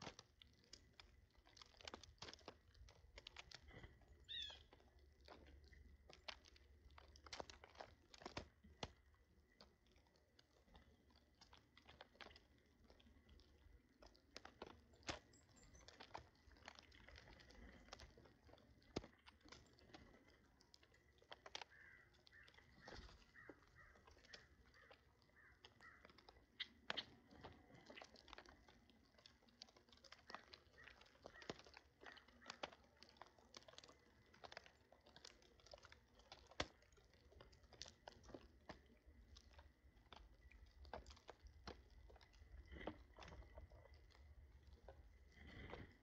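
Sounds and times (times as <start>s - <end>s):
birds pecking and crunching food: 0.0s - 46.0s.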